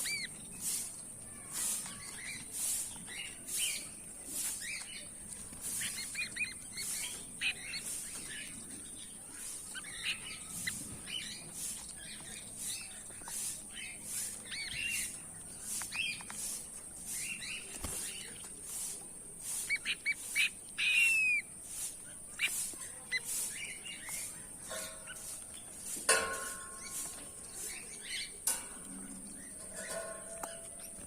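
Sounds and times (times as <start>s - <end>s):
steady high hiss: 0.0s - 30.9s
goldfinches chirping and twittering: 0.0s - 31.0s.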